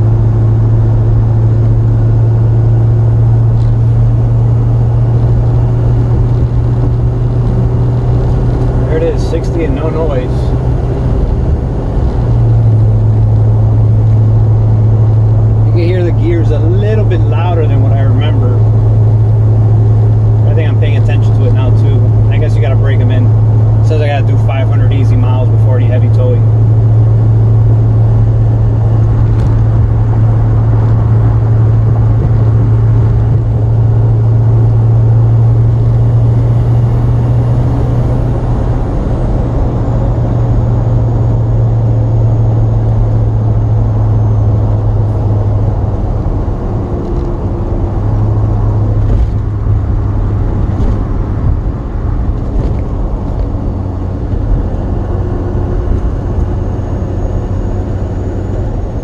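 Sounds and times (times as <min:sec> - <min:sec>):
truck cab engine and tyre drone: 0:00.0 - 0:59.0.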